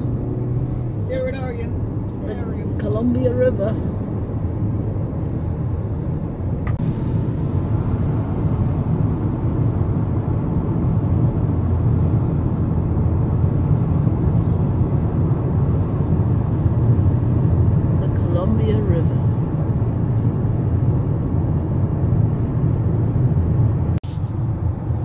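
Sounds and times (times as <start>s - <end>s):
car road noise inside cabin: 0.0s - 25.0s.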